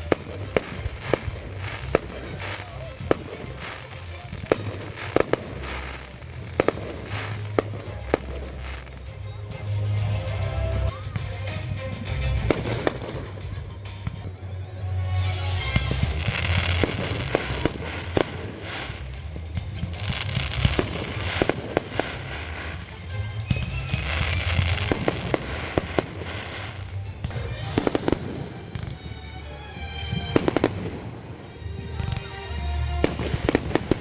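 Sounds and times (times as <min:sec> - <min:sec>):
fireworks bangs and pops: 0:00.0 - 0:14.6, 0:15.6 - 0:34.0
fireworks crackling: 0:00.0 - 0:34.0.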